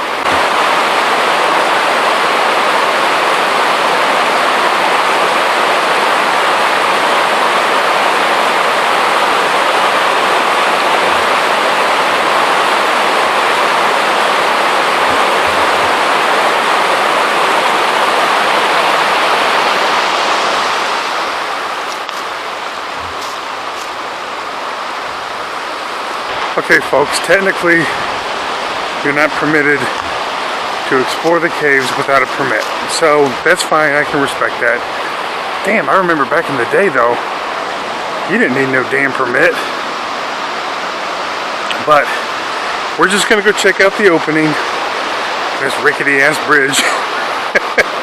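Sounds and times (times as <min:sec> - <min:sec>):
water rushing in a stream: 0:00.0 - 0:48.0.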